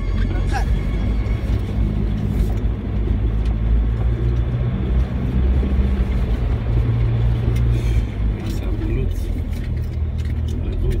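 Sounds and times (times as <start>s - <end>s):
vehicle engine drone inside cabin: 0.0s - 11.0s.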